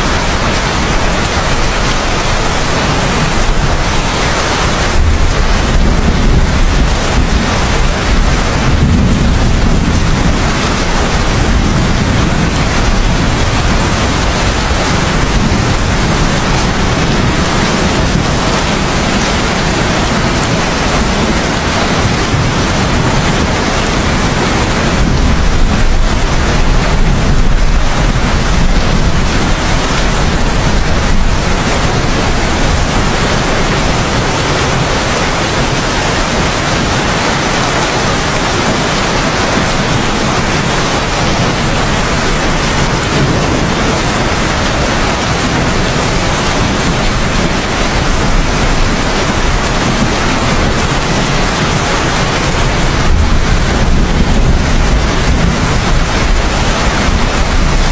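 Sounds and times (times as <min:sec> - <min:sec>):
heavy rain: 0:00.0 - 0:57.9
thunder rumbling: 0:00.0 - 0:57.9.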